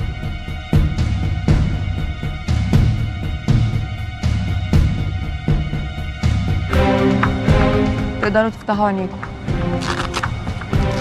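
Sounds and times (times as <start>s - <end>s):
background music with low beats: 0.0s - 11.0s.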